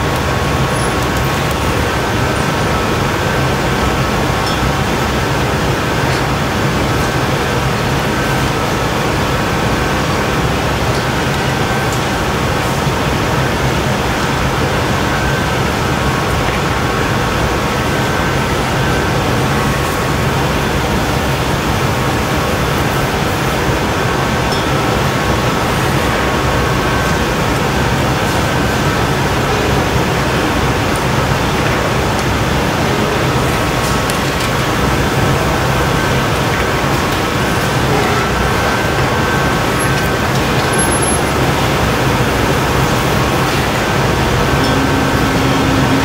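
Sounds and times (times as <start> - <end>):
gas burners roaring: 0.0 - 46.0
ventilation hum: 0.0 - 46.0.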